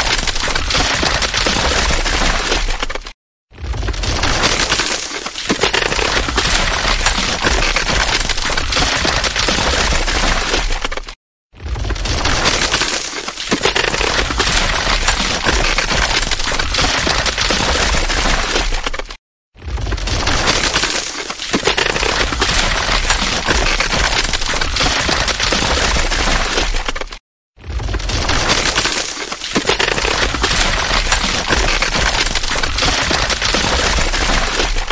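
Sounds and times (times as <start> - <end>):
ice cracking and crunching: 0.0 - 34.9.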